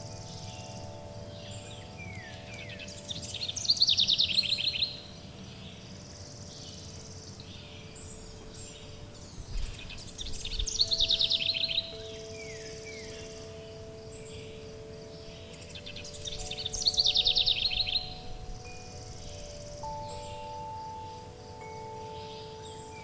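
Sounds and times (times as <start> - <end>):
bird singing falling trill: 0.0 - 23.0
faint bird chirps: 0.0 - 23.0
soft background hiss: 0.0 - 23.0
sustained chime tones: 0.0 - 23.0.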